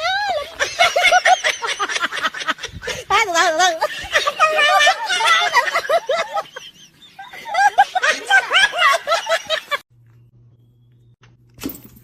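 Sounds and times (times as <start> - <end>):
high-pitched laughter: 0.0 - 9.8.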